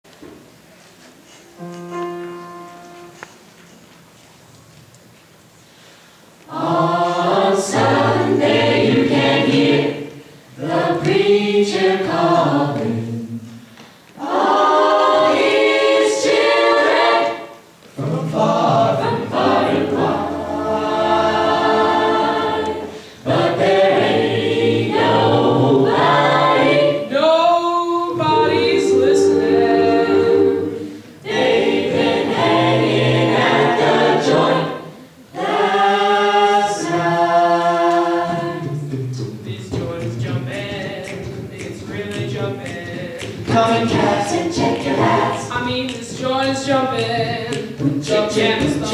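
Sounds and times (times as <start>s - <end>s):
choir singing a cappella: 6.5s - 13.6s, 14.2s - 48.9s.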